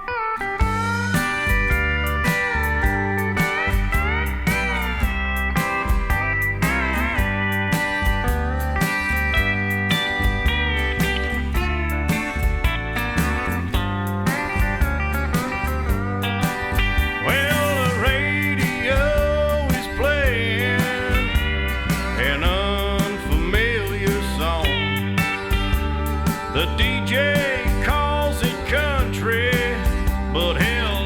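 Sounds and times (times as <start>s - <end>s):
country band with steady beat: 0.0s - 31.0s
steel guitar sliding lines: 0.0s - 31.0s.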